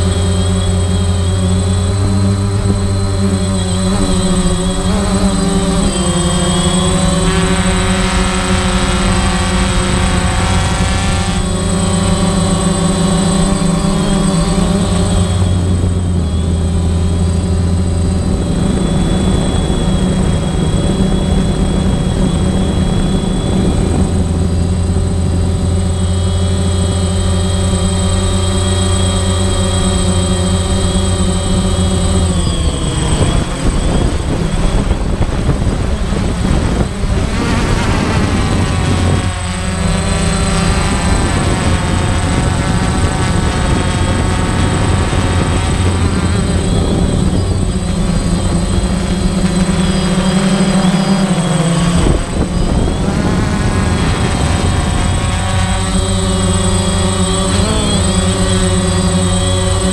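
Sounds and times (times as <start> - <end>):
drone propeller motors whining: 0.0 - 59.9.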